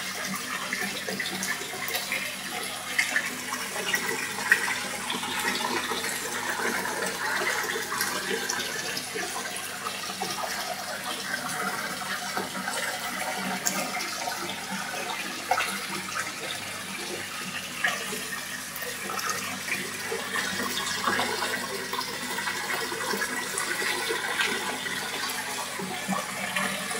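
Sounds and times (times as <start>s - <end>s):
water churning and bubbling: 0.0s - 26.9s.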